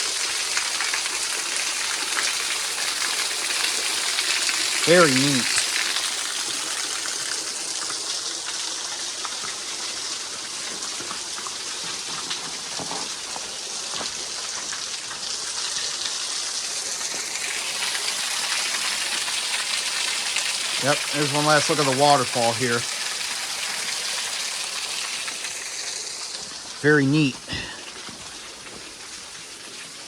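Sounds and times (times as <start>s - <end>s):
small waterfall splashing: 0.0s - 30.0s.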